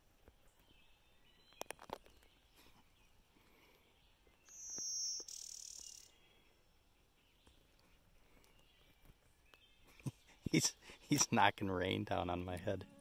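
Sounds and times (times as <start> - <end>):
warbler buzzy song: 0.4 - 13.0
faint bird calls: 0.5 - 11.1.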